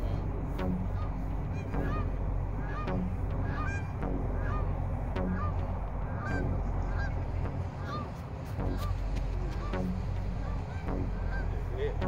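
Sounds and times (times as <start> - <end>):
steady low rumble: 0.0 - 12.0
birds calling: 0.7 - 12.0.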